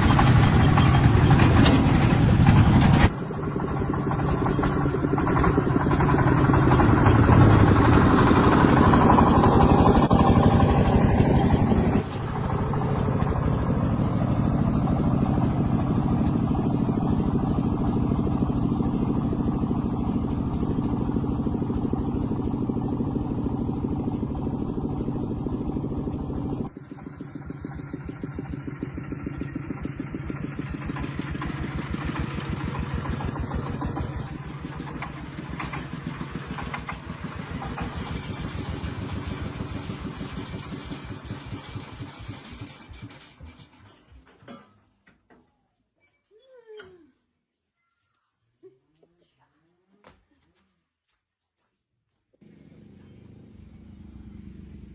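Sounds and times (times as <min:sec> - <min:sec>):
tractor engine running: 0:00.0 - 0:44.6, 0:52.4 - 0:54.9.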